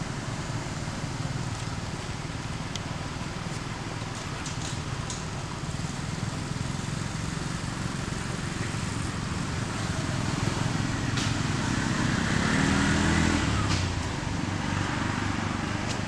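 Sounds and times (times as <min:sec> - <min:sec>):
outdoor background rumble and hiss: 0:00.0 - 0:16.0.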